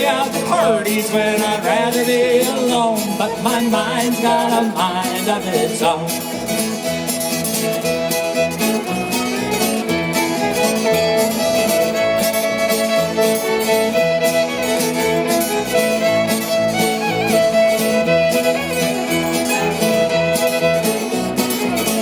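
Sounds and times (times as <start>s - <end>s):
acoustic guitar strumming: 0.0s - 22.0s
fiddle playing: 0.0s - 22.0s
upright bass: 0.0s - 22.0s.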